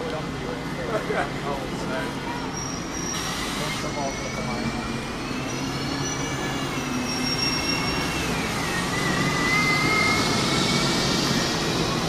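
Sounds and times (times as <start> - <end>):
bus engine with high whine: 0.0 - 12.0.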